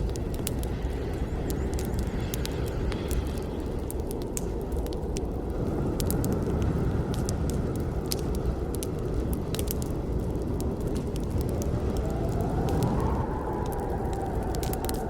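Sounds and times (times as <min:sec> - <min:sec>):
low rush of flames: 0:00.0 - 0:15.0
wood crackling and popping: 0:00.0 - 0:15.0.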